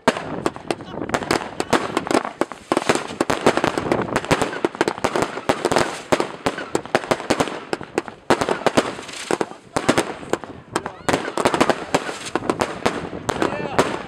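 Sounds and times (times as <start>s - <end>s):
fireworks popping and banging: 0.0s - 14.0s.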